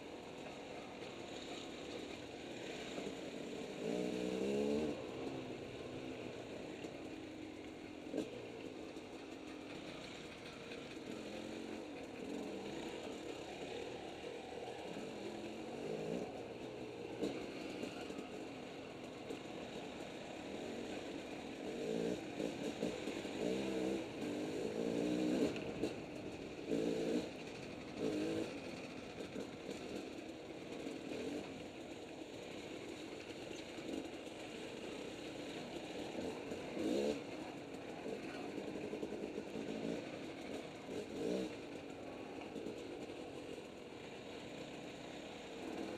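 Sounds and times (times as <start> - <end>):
two-stroke dirt bike engine revving: 0.0 - 45.9.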